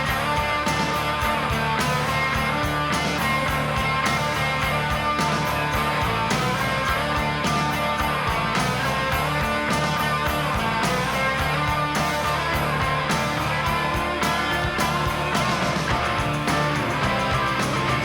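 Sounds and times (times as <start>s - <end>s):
bass guitar: 0.0s - 18.0s
electric guitars strumming: 0.0s - 18.0s
steady drum beat: 0.0s - 18.0s.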